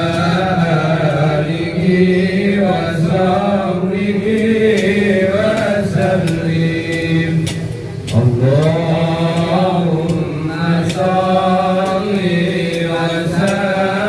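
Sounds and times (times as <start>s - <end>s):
devotional chanting: 0.0s - 14.0s.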